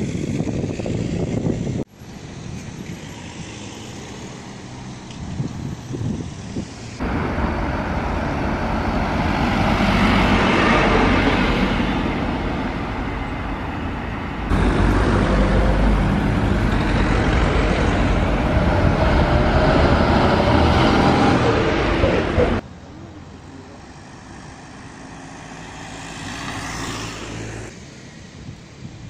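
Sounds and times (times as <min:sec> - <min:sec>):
minibus driving past: 0:02.3 - 0:28.4.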